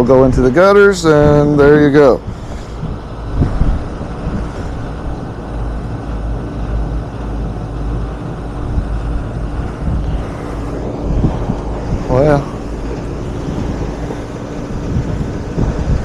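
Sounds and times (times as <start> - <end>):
hvac unit humming: 0.0 - 16.0.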